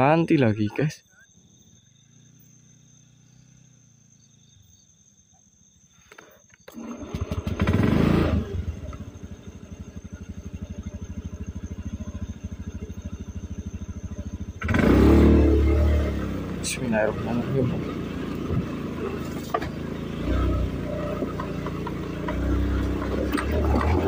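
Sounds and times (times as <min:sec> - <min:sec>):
scooter engine revving and idling: 0:01.6 - 0:04.5, 0:06.7 - 0:24.0.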